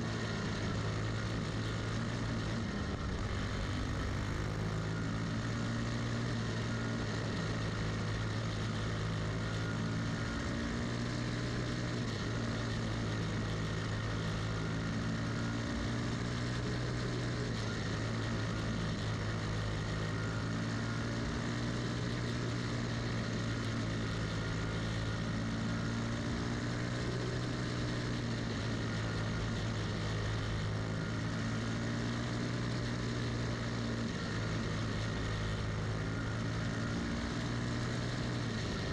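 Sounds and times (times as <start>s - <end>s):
kart engine running hard: 0.0s - 38.9s.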